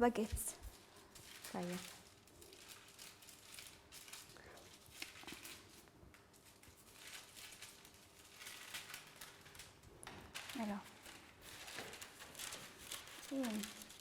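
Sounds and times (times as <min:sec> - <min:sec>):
faint rustling: 0:00.0 - 0:14.0.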